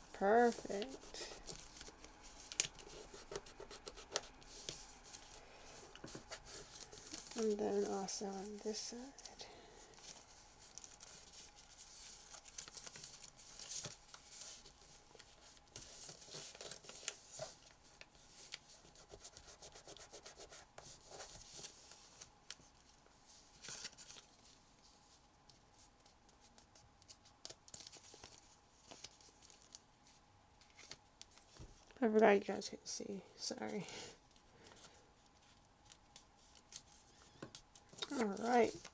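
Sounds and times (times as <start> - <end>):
paper rustling and crinkling: 0.0 - 32.0, 34.3 - 38.9.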